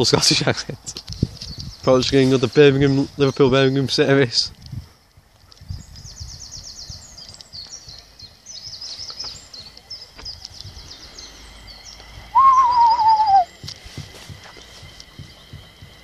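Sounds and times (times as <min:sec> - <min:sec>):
songbirds trilling: 0:00.0 - 0:16.0.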